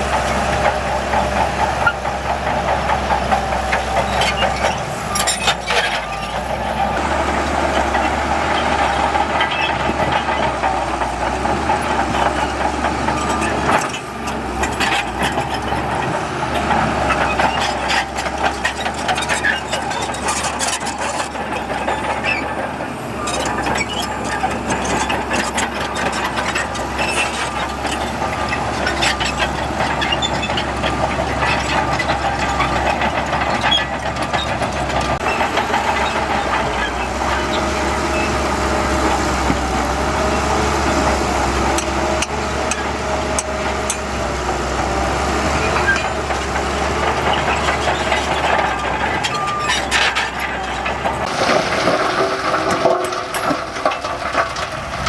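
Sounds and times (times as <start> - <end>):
diesel earthmoving machinery running: 0.0 - 55.0
metallic clanks and rattles: 0.1 - 7.0, 7.7 - 38.3, 41.7 - 55.0.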